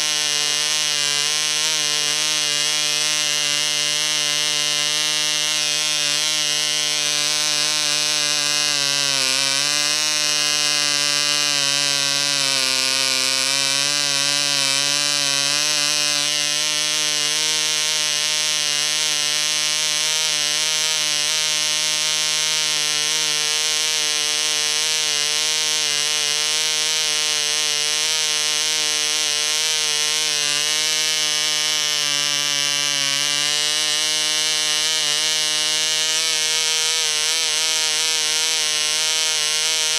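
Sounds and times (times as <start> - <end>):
model engine buzzing at high speed: 0.0 - 39.9.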